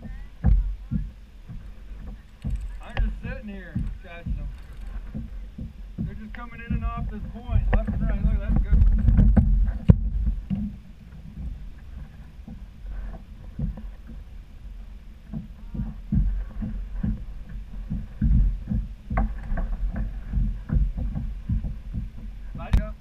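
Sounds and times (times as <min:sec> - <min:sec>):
knocks and bumps on a kayak: 0:00.0 - 0:23.0
low rumble of water: 0:00.0 - 0:23.0
wind: 0:00.0 - 0:23.0.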